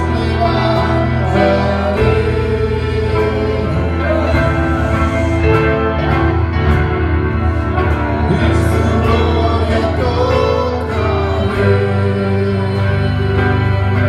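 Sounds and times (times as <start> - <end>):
voices singing: 0.0 - 6.5, 7.9 - 14.0
band playing worship song: 0.0 - 14.0.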